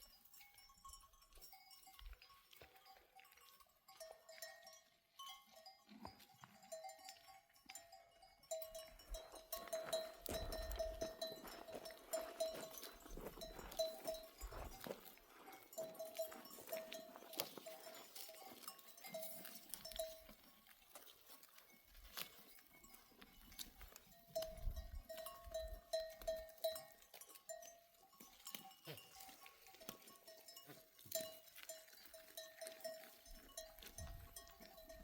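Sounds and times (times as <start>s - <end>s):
livestock bell clanking: 0.0s - 35.0s.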